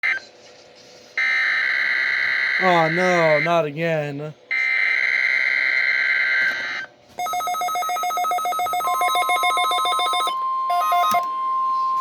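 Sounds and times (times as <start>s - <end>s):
steady high alarm tone: 1.2s - 3.6s, 4.5s - 12.0s.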